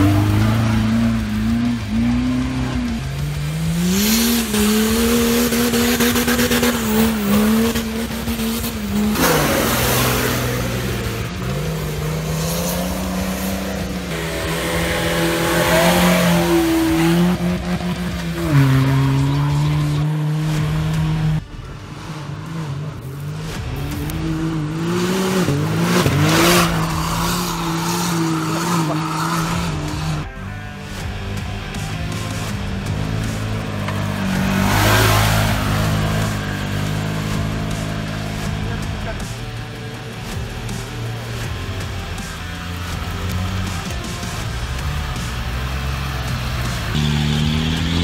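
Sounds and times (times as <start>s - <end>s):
off-road vehicle engines revving: 0.0s - 48.0s.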